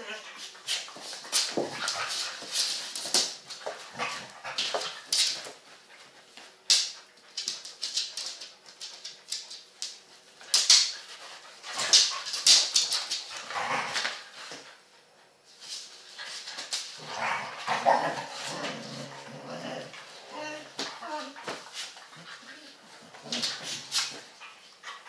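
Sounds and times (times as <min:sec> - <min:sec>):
dogs scuffling: 0:00.1 - 0:25.0.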